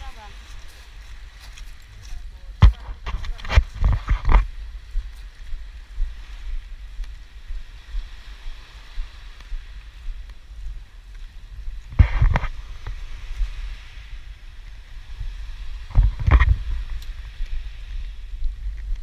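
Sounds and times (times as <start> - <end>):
small waves washing on sand: 0.0 - 19.0
wind buffeting microphone: 0.0 - 19.0.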